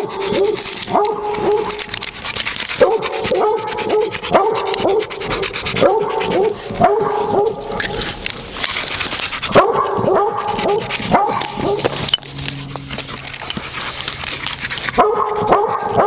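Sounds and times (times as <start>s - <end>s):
rustling and scratching: 0.0s - 16.0s.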